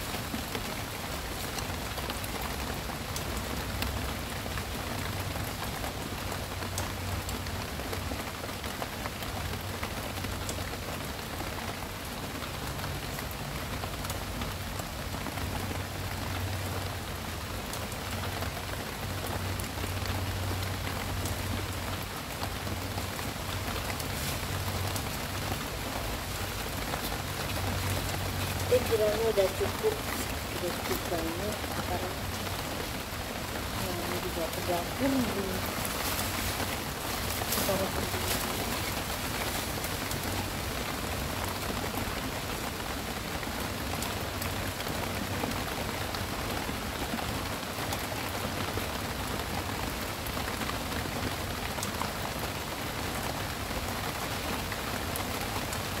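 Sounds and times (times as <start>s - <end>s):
raindrop ticks: 0.0s - 50.8s
rain hissing: 0.0s - 56.0s.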